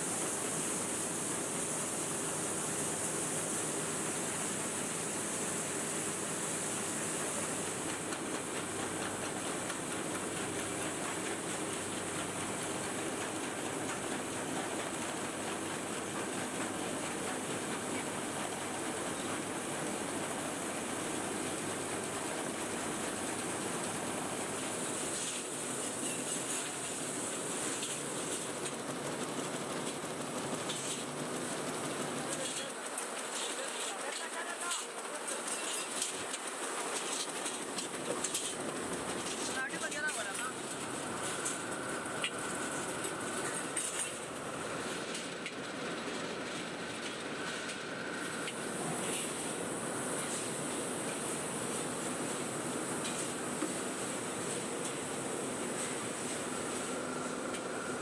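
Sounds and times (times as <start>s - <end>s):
machinery clatter and hiss: 0.0s - 58.0s.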